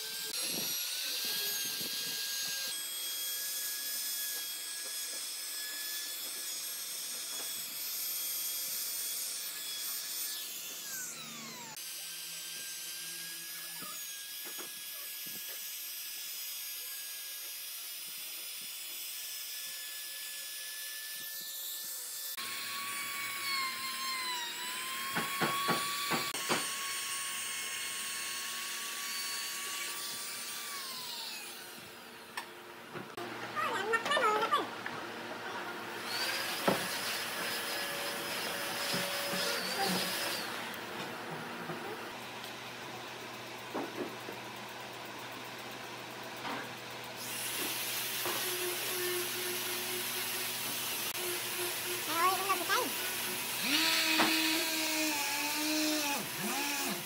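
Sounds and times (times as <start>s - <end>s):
router whining: 0.0s - 57.0s.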